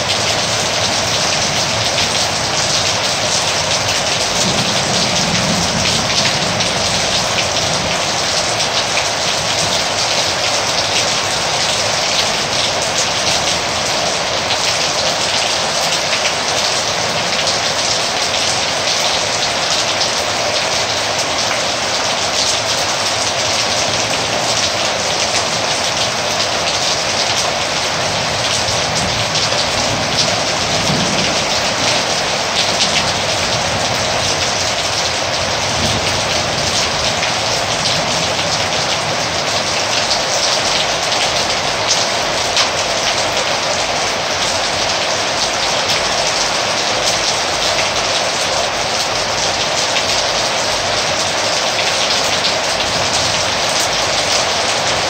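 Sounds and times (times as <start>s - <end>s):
heavy rain hiss: 0.0s - 55.0s.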